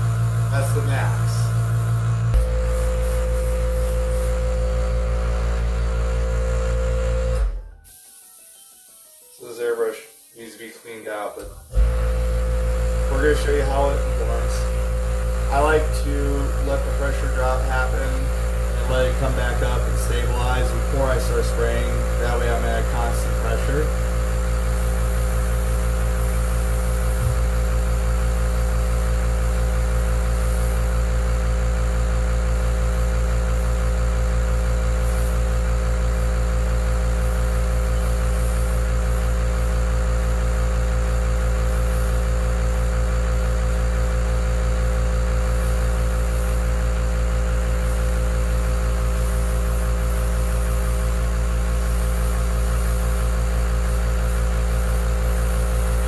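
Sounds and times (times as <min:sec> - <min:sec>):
airbrush spraying hiss: 0:00.0 - 0:04.6, 0:07.8 - 0:09.0, 0:09.9 - 0:11.7, 0:13.0 - 0:56.0
compressor humming: 0:00.0 - 0:08.2, 0:09.3 - 0:56.0.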